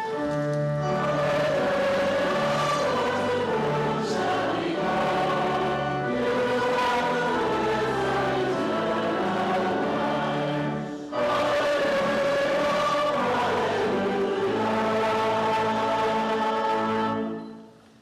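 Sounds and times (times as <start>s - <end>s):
choir singing: 0.0s - 17.8s.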